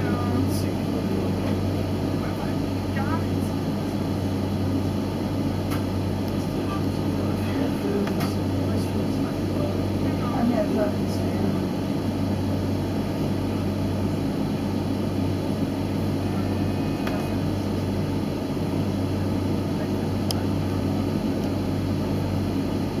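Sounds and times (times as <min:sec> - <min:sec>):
train rumble from inside carriage: 0:00.0 - 0:23.0.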